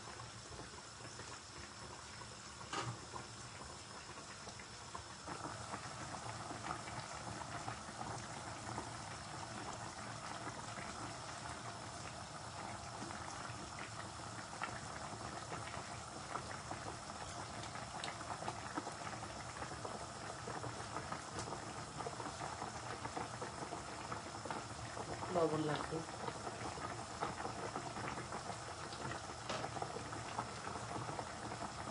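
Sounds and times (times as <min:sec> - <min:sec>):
curry bubbling in a pan: 0:00.0 - 0:31.9.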